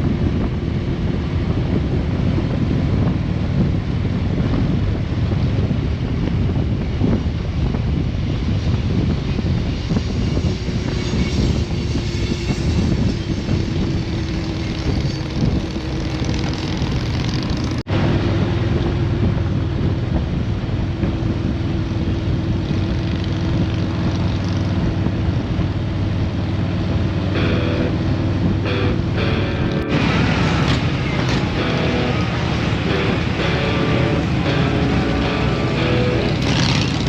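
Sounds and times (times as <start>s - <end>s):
wind and road noise: 0.0s - 37.0s.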